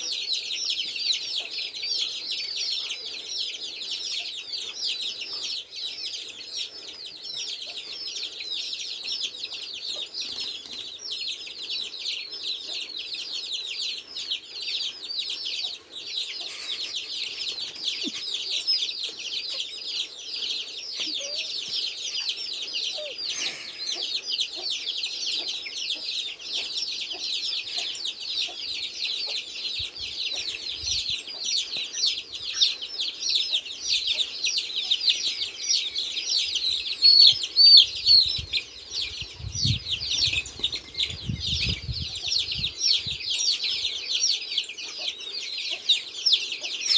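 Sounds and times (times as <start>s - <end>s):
chicks peeping: 0.0s - 46.9s.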